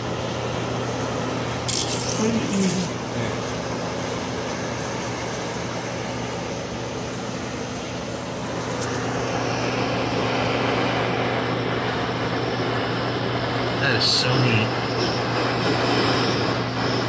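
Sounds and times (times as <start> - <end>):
constant low hum: 0.0 - 17.0
gas torch flame hiss: 0.0 - 17.0.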